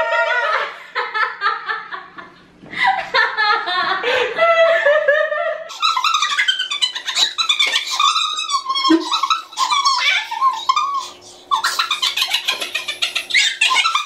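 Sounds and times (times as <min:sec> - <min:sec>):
women laughing: 0:00.0 - 0:14.0.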